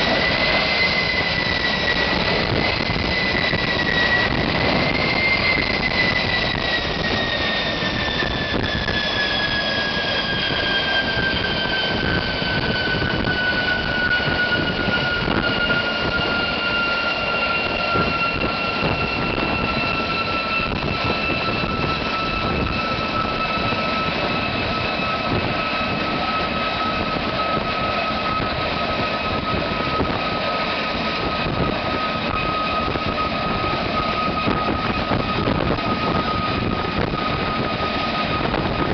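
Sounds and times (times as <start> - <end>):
jet engine high whine: 0.0 - 38.9
turbojet engine roaring: 0.0 - 38.9.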